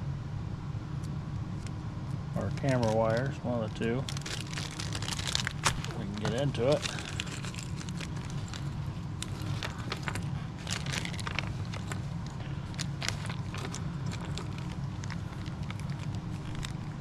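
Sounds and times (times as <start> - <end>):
steady low hum: 0.0 - 17.0
plastic packaging crinkling: 2.4 - 17.0.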